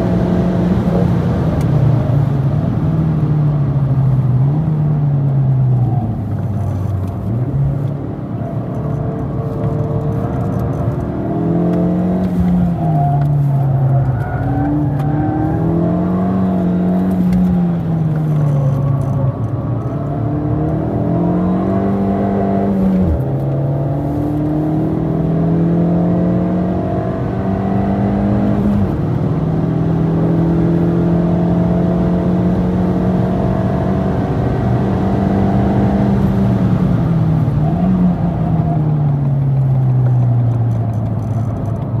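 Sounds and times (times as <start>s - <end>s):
car engine accelerating: 0.0s - 42.0s.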